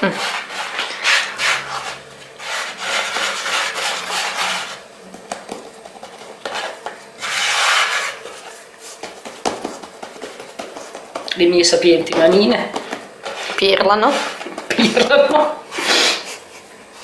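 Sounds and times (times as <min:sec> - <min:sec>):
hands scraping floured board: 0:00.0 - 0:11.3, 0:12.0 - 0:15.5.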